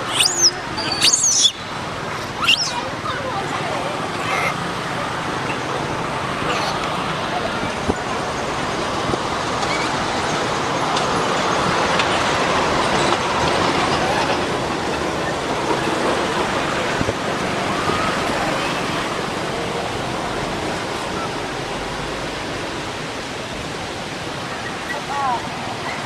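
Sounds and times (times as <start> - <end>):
rushing outdoor background noise: 0.0 - 26.0.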